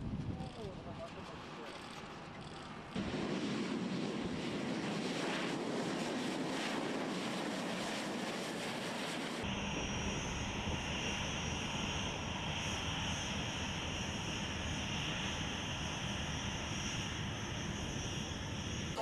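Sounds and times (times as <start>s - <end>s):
jet engines whining while taxiing: 0.0s - 19.0s.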